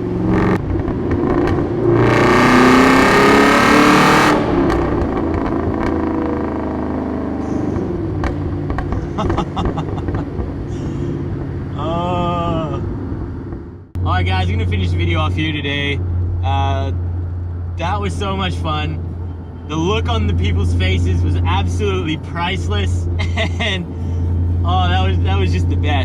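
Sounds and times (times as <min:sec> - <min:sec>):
loud car exhaust accelerating: 0:00.0 - 0:26.0.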